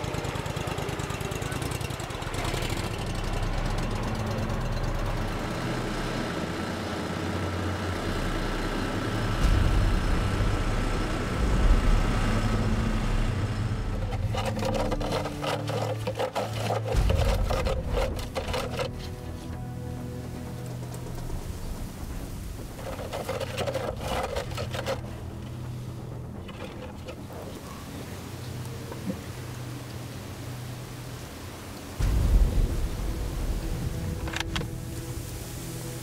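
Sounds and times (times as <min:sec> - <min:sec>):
outboard motor running: 0:00.0 - 0:32.5.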